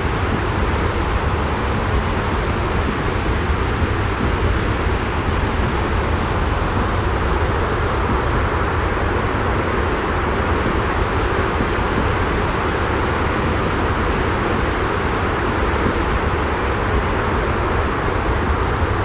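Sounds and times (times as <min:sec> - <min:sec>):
low white noise rumble: 0:00.0 - 0:19.0.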